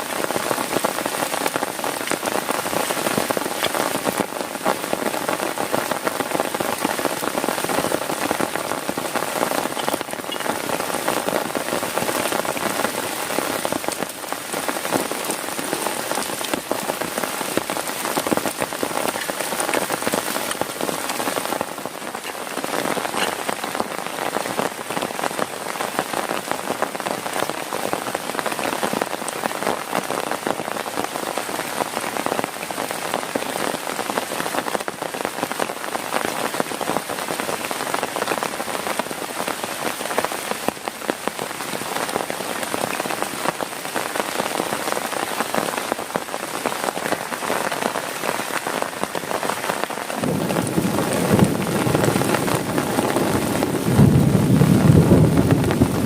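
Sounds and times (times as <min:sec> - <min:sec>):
heavy rain on a tent: 0:00.0 - 0:56.0.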